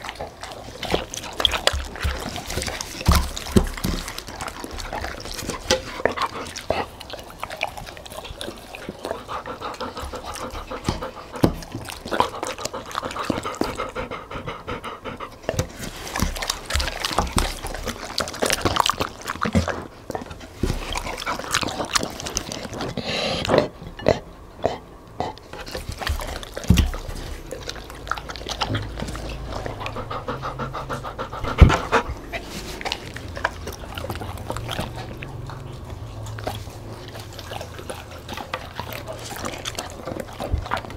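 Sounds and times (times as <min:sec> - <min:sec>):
dogs chewing and slurping: 0:00.0 - 0:40.9
dogs panting: 0:00.0 - 0:40.9.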